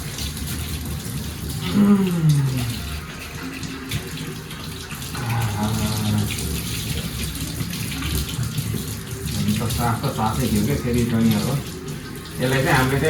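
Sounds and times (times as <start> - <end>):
tap water running and splashing: 0.0 - 13.0.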